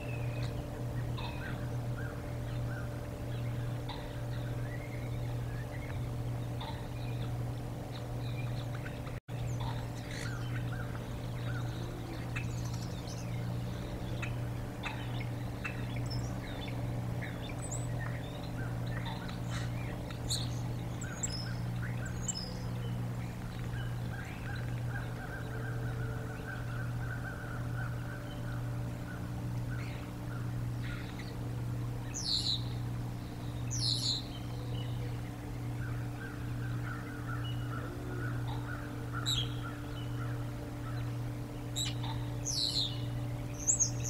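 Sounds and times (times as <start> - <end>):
steady low hum: 0.0 - 44.0
wild birds chirping: 0.0 - 44.0.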